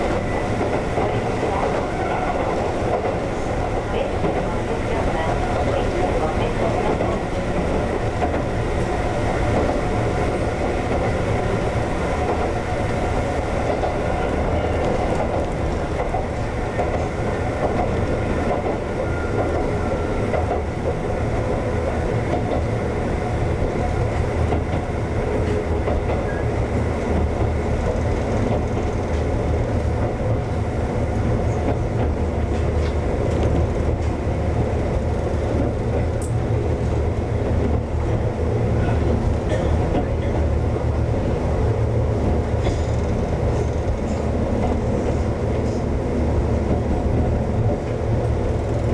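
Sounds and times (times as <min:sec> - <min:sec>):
train wheels on rail: 0:00.0 - 0:48.9.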